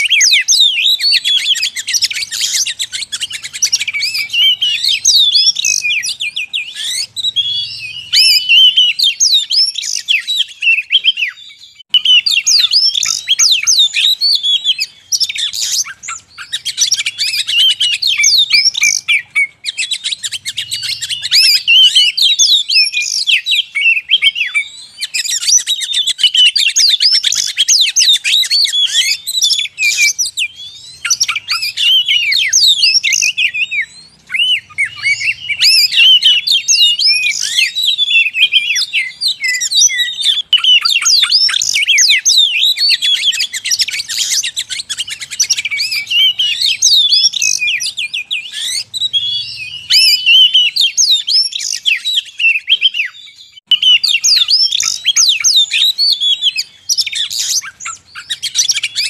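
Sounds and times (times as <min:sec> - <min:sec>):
bird song with whistles and chatter: 0:00.0 - 0:59.0.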